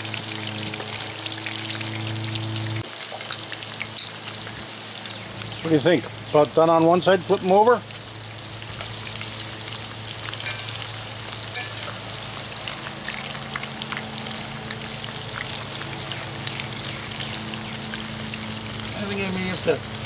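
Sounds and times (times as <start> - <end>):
food deep-frying in oil: 0.0 - 20.0
low steady hum: 0.0 - 20.0.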